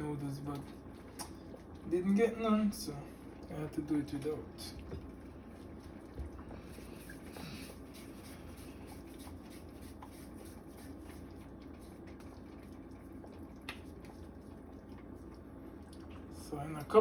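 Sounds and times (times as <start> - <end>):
soup bubbling: 0.4 - 17.0.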